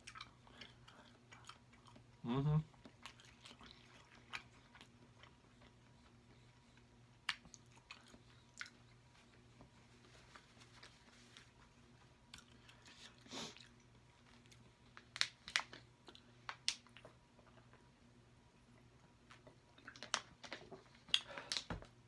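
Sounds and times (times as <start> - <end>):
chewing soft food: 0.0 - 21.7.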